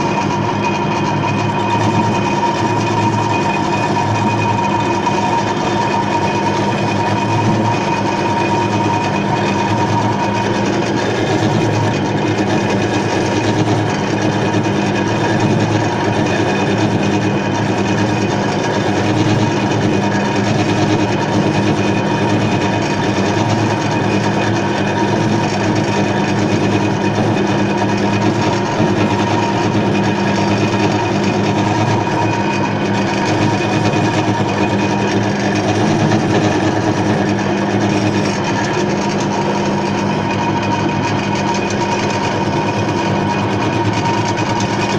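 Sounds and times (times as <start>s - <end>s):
lathe motor hum and whine: 0.0s - 44.9s.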